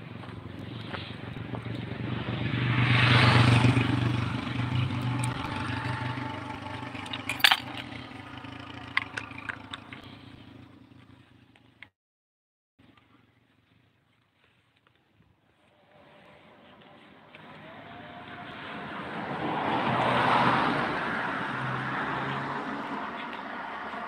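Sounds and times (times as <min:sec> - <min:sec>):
vehicle engine passing: 0:00.0 - 0:11.6, 0:15.6 - 0:24.0.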